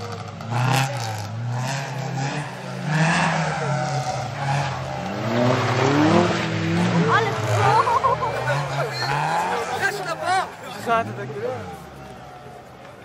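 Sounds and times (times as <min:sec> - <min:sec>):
rally car engine at full throttle: 0:00.0 - 0:13.0
tyres skidding: 0:00.0 - 0:13.0.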